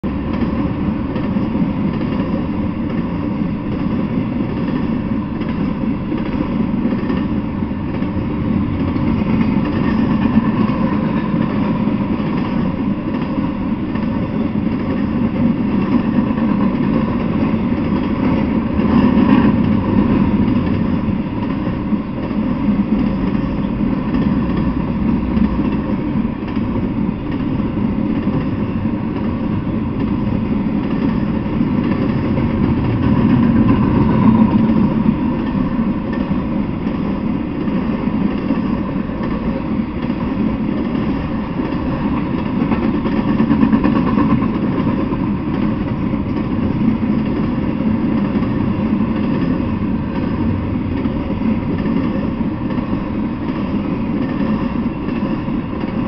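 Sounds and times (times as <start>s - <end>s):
freight train rumbling on rails: 0.0s - 56.0s.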